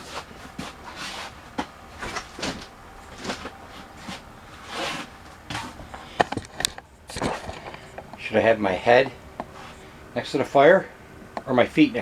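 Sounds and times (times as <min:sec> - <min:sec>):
bedding rustling: 0:00.0 - 0:10.9.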